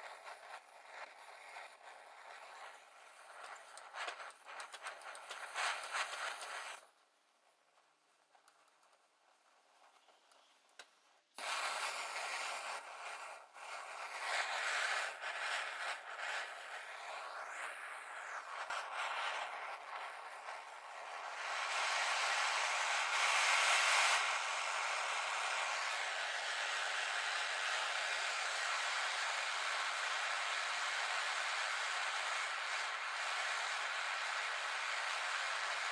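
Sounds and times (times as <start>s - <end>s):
blowlamp burner hissing: 0.0s - 35.9s.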